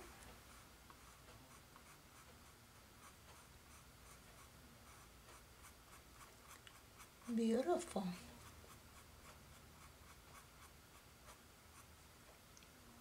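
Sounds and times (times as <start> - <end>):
paintbrush scratching on canvas: 0.0 - 12.1.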